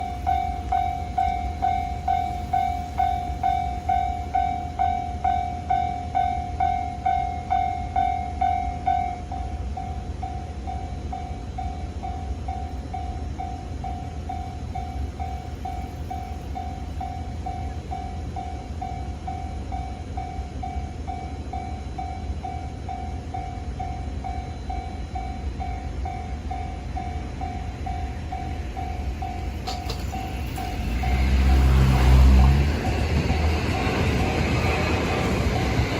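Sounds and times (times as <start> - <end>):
level crossing warning bell: 0.0 - 35.9
low rumble of passing train: 0.0 - 35.9.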